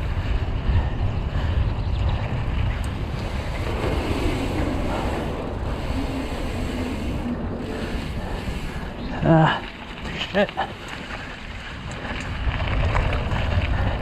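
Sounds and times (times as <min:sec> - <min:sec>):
bike tyres on soil: 0:00.0 - 0:14.0
wind buffeting microphone: 0:00.0 - 0:14.0.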